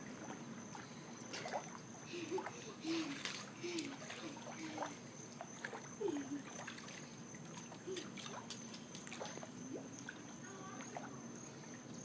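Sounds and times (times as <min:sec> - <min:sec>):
water trickling and splashing: 0:00.0 - 0:12.0
distant voices: 0:00.7 - 0:12.0.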